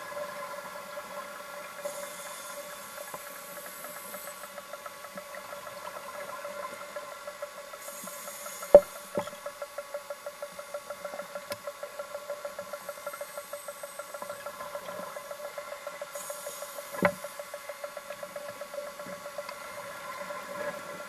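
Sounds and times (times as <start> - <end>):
pulsing mechanical hum: 0.0 - 21.0.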